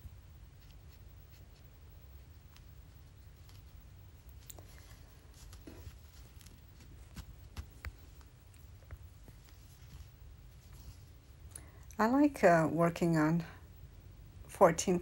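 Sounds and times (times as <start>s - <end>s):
needle and thread rustling through cloth: 0.0s - 13.5s.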